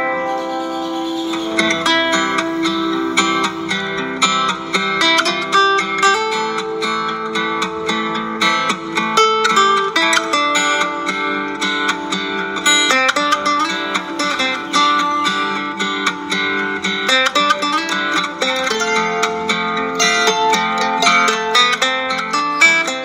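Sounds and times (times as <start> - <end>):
plucked acoustic guitar melody: 0.0 - 23.0.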